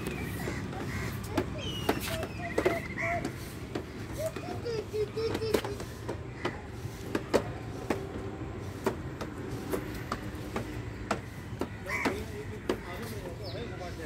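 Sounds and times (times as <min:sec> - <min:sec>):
wheels knocking over paving joints: 0:00.0 - 0:13.4
plastic wheels rumbling on pavers: 0:00.0 - 0:14.0.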